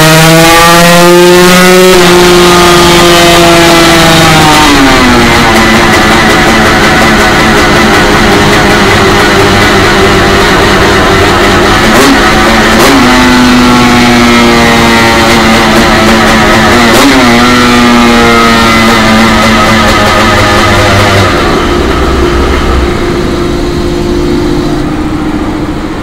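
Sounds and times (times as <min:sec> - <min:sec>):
two-stroke engine at high revs: 0:00.0 - 0:26.0.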